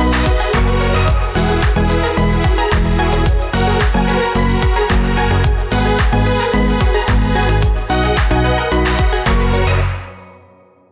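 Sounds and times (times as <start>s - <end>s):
electronic dance music: 0.0s - 10.3s.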